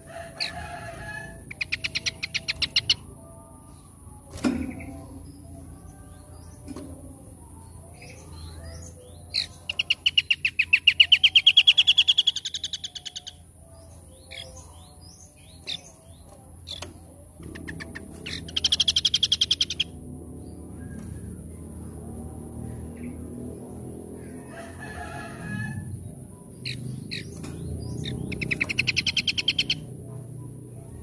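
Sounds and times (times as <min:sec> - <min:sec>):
songbird chirping and trilling: 0:00.0 - 0:31.0.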